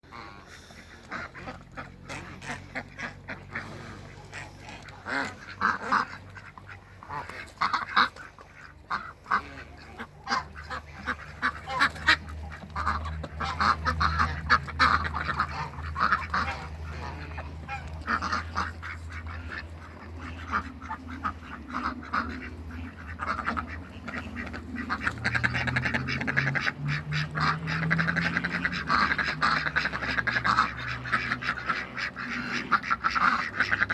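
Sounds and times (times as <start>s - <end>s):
ducks quacking: 0.0s - 33.9s
steady low hum: 0.0s - 33.9s.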